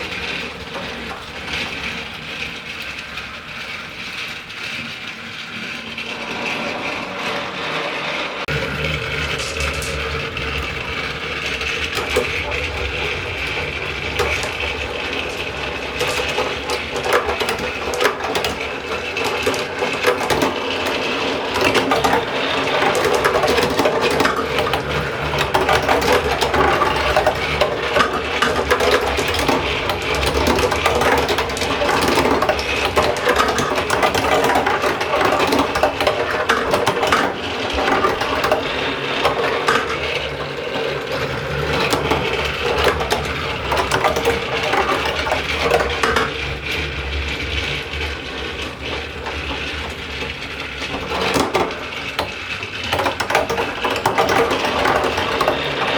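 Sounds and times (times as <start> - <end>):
marbles clattering through plastic run: 0.0 - 55.9
toy motor whirring: 0.0 - 55.9.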